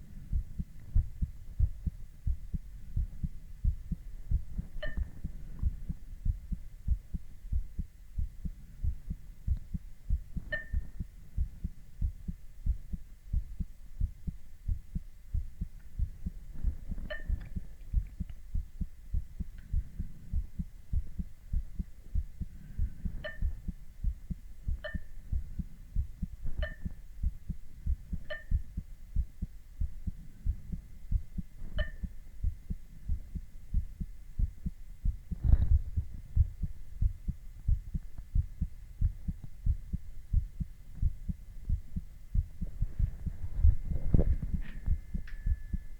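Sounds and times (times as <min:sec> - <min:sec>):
faint hum: 0:00.0 - 0:45.9
heartbeat through stethoscope: 0:00.0 - 0:45.9.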